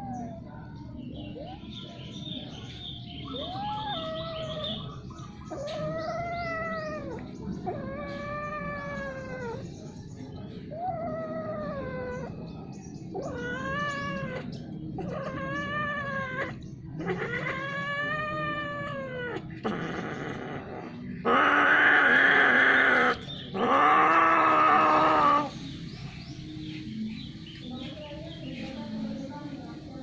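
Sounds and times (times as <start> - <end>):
cats yowling: 0.0 - 9.8, 10.5 - 25.6.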